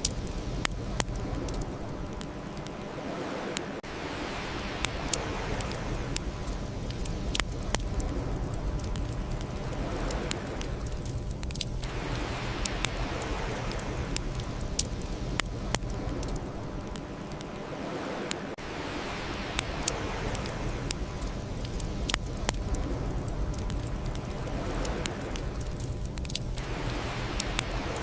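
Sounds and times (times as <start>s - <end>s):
bonfire crackling and popping: 0.0s - 28.0s
low fire rumble: 0.0s - 28.0s.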